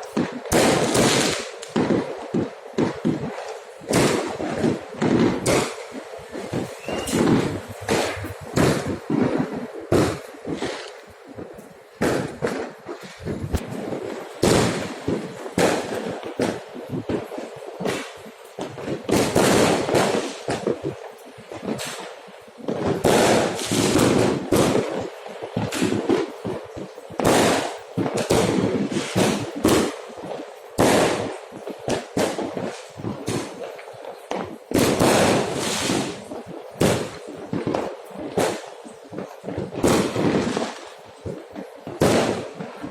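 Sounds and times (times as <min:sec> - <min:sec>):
fireworks and firecrackers banging: 0:00.0 - 0:42.9.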